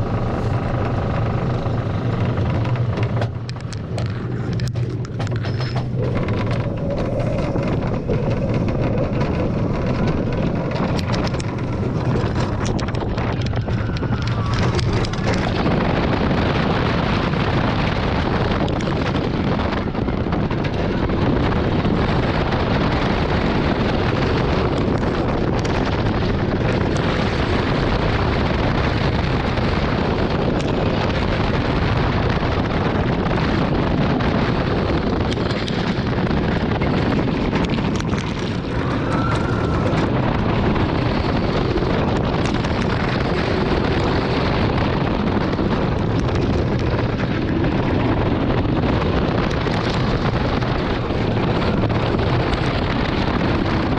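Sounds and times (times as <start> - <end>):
roller coaster train rumbling: 0.0 - 53.9
wind buffeting microphone: 0.0 - 53.9.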